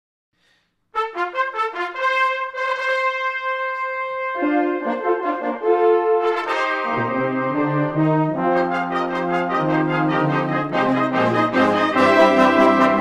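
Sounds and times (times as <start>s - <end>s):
brass ensemble playing a fanfare: 1.0s - 13.0s
deep tuba notes: 1.0s - 13.0s.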